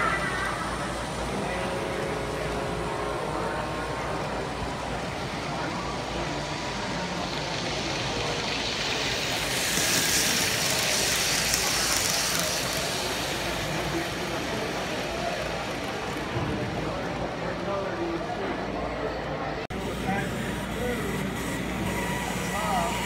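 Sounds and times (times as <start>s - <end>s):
model trains rolling: 0.0s - 23.0s.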